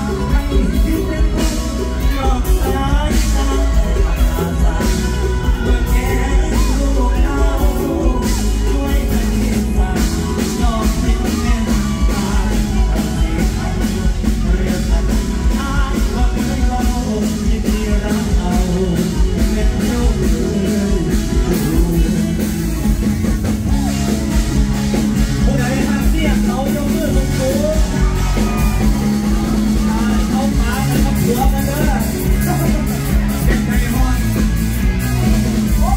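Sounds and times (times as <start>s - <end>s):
man singing into a microphone: 0.0s - 24.4s, 25.1s - 35.9s
heavy bass: 0.0s - 35.9s
live band music through loud speakers: 0.0s - 35.9s
steady drum beat: 0.0s - 35.9s.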